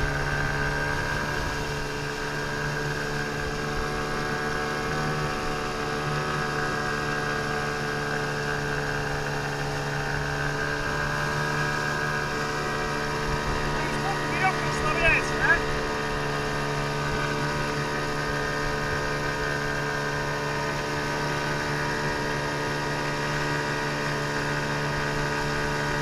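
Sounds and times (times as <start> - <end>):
outboard motor droning: 0.0 - 26.0.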